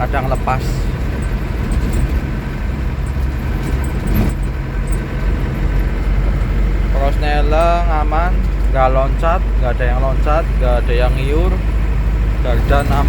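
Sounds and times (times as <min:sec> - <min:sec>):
diesel engine running: 0:00.0 - 0:13.0
road noise: 0:00.0 - 0:13.0.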